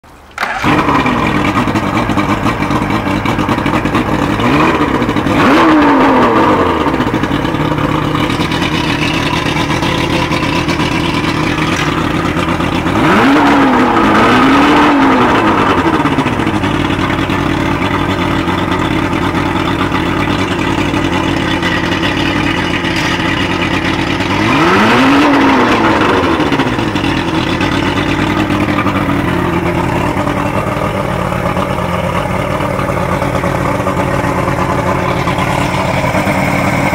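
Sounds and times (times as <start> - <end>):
outboard motor idling: 0.1 - 36.9
outboard motor revving: 0.4 - 36.9.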